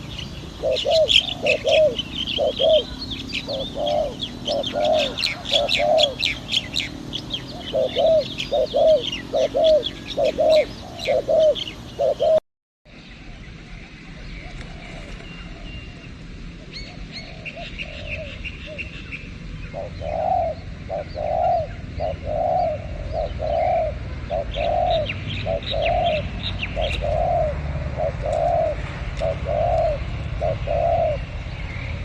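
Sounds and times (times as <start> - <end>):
dove cooing: 0.0 - 12.4, 16.7 - 19.0, 19.7 - 31.4
small birds chirping: 0.0 - 32.0.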